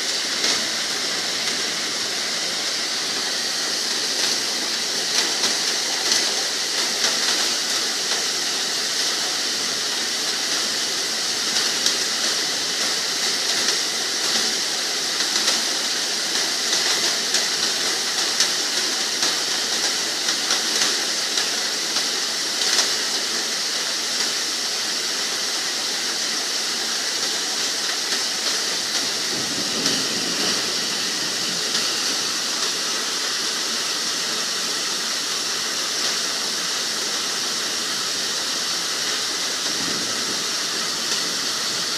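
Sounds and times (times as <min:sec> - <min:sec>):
rain falling steadily: 0:00.0 - 0:41.9.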